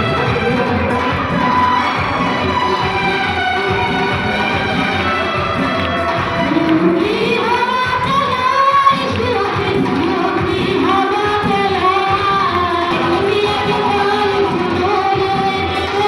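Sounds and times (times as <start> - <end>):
person singing worship song: 0.0 - 15.9
instrumental backing: 0.0 - 16.0.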